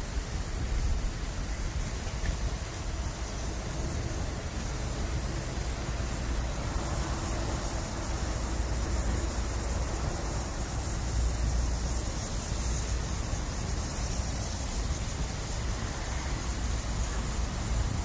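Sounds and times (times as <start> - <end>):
campfire hissing: 0.0 - 18.0.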